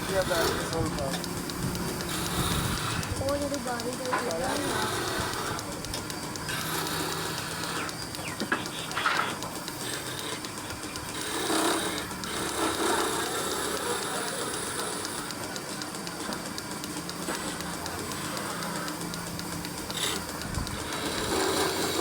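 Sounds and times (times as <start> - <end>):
woodworking machine ticking: 0.0 - 22.0.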